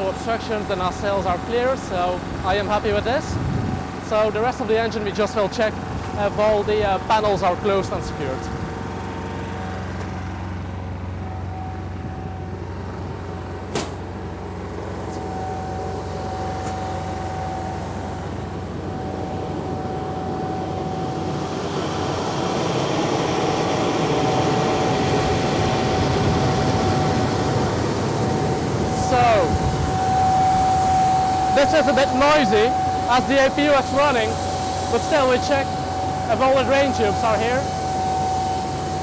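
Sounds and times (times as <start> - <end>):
auxiliary power unit whine and roar: 0.0 - 39.0.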